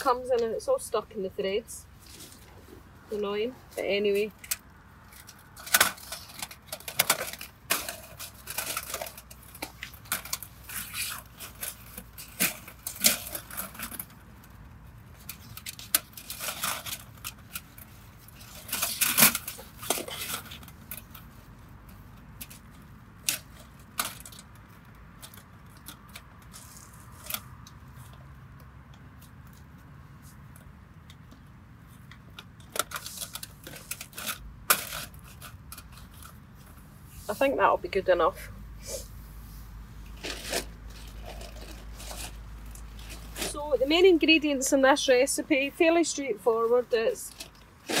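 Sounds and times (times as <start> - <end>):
rustling: 0.0 - 48.0.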